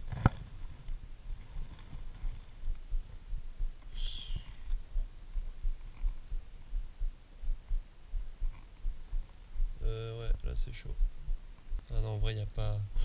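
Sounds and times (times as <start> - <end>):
low thumping rumble: 0.0 - 13.0.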